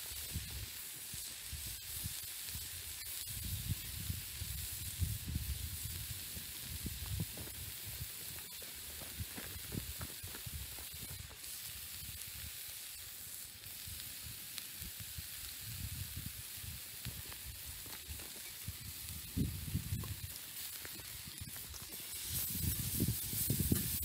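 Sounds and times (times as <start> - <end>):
bacon sizzling on a griddle: 0.0 - 24.0.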